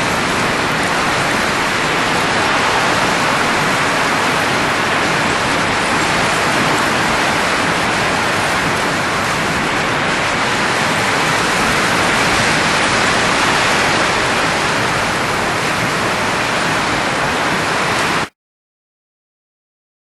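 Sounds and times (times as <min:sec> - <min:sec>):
loud steady rushing noise: 0:00.0 - 0:18.3.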